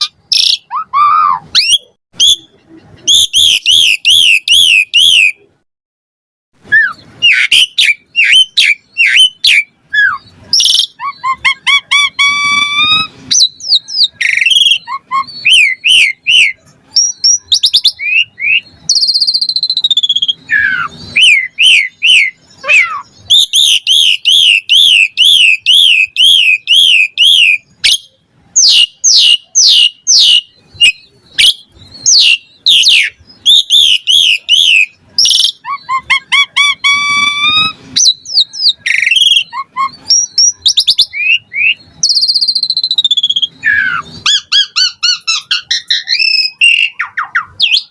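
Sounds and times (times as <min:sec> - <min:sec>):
starling singing whistles and trills: 0:00.0 - 0:05.5, 0:06.6 - 0:47.9.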